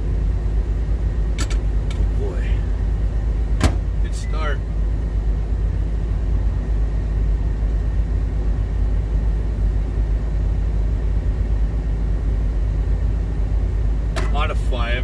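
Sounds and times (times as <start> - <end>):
convection oven running: 0.0 - 15.0
truck engine idling: 0.0 - 15.0.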